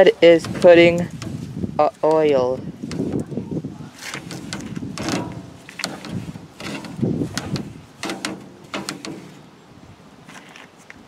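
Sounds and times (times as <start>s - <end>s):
metal tongs scraping grill grate: 0.0s - 9.6s.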